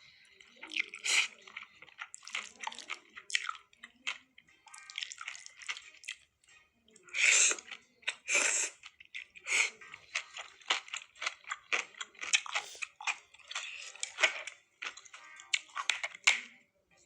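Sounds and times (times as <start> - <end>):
chewing and crunching food: 0.0 - 17.0.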